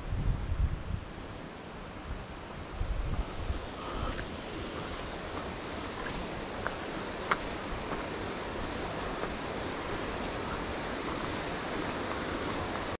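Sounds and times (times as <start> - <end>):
mountain stream rushing: 0.9 - 13.0.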